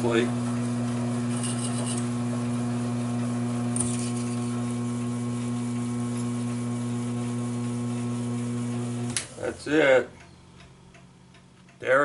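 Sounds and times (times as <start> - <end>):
lathe motor humming: 0.0 - 10.0.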